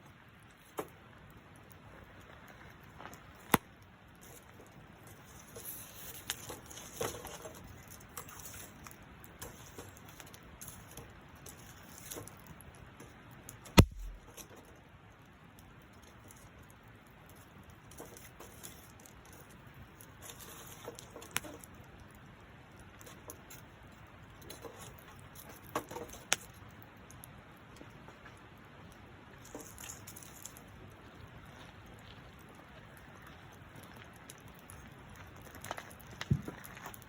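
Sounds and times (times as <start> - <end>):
campfire crackling: 0.0 - 37.0
fire popping: 0.0 - 37.0.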